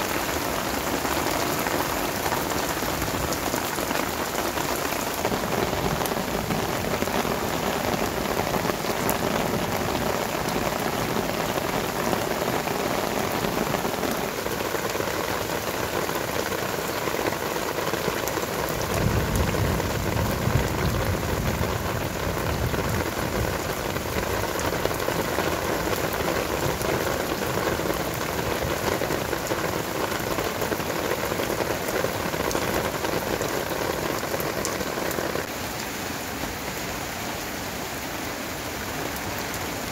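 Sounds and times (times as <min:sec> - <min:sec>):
rain falling on surfaces: 0:00.0 - 0:39.9.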